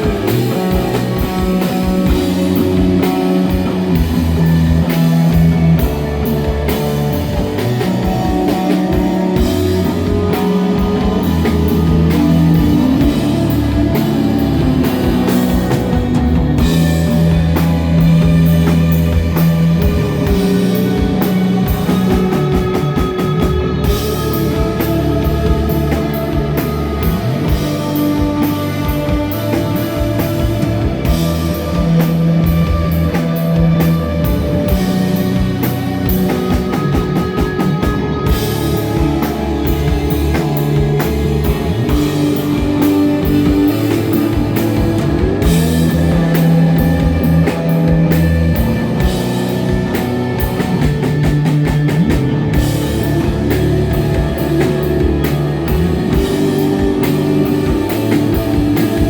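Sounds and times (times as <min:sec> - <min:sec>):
bass guitar: 0:00.0 - 0:59.0
drum kit with cymbals: 0:00.0 - 0:59.0
electric guitar: 0:00.0 - 0:59.0.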